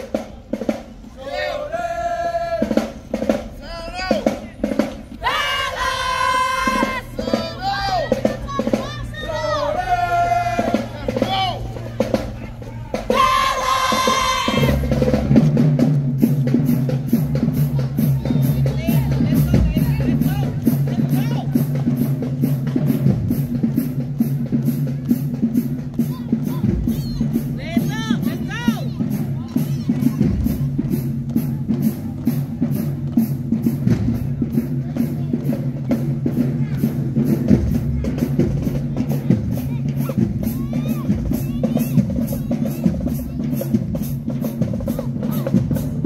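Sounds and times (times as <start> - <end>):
marching drumline: 0.0 - 46.0.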